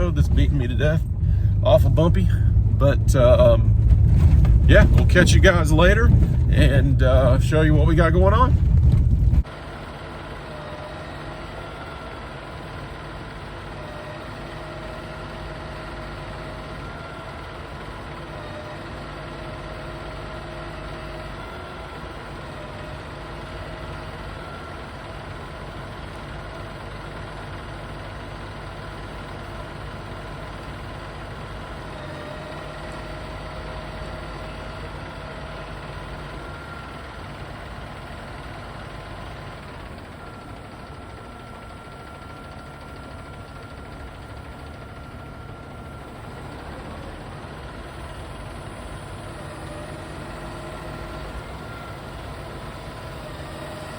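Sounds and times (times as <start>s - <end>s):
truck engine rumbling: 0.0s - 53.9s.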